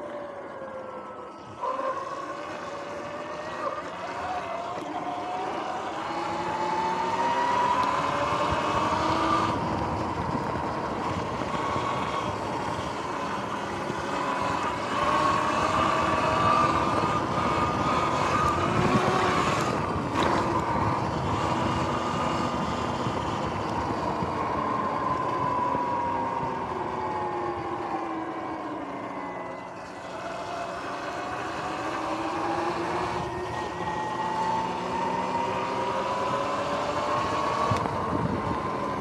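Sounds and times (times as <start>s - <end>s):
electric motor whine: 0.0s - 39.0s
tyre and wind noise: 2.4s - 29.2s, 31.1s - 39.0s.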